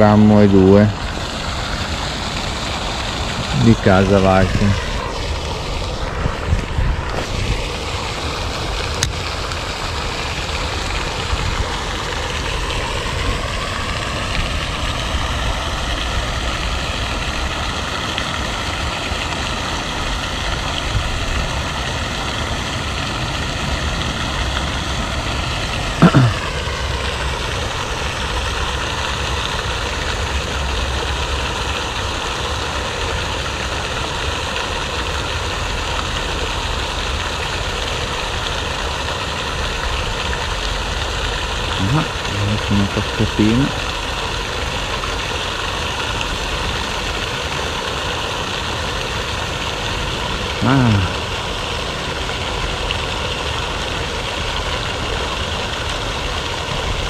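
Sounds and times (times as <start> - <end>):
fountain splashing: 0.0 - 57.0.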